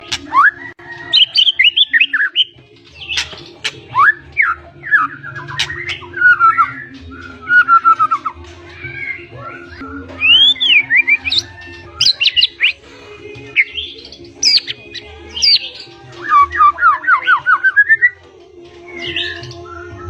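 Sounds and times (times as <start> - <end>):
songbird singing varied song: 0.0 - 20.0.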